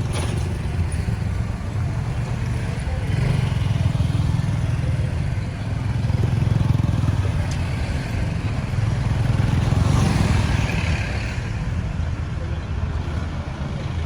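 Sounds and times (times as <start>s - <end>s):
motor vehicle engine noise: 0.0s - 14.0s
road rumble: 0.0s - 14.0s.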